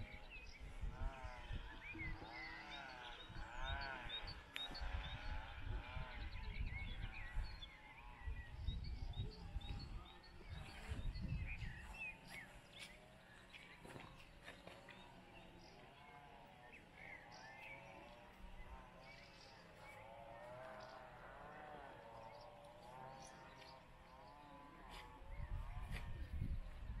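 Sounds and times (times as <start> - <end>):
wind rumbling on microphone: 0.0 - 16.4, 18.1 - 27.0
repeated rising and falling bird calls: 0.0 - 27.0
small birds chirping: 0.0 - 27.0.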